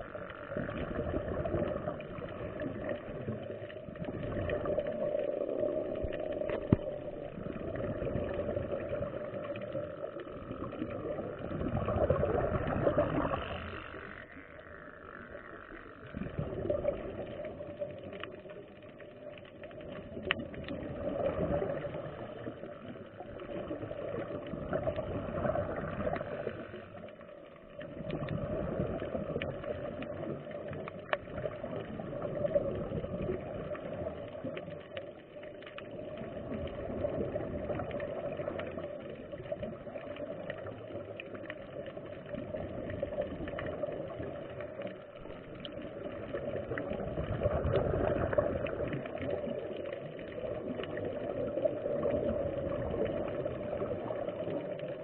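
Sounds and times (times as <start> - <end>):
bubbles gurgling underwater: 0.0 - 55.0.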